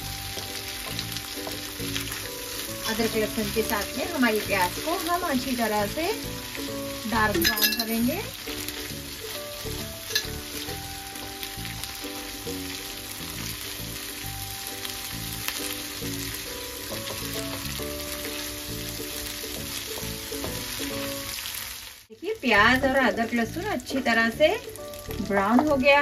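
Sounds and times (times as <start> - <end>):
soft background music: 0.0 - 21.4, 22.2 - 26.0
paste sizzling in hot oil: 0.0 - 22.1.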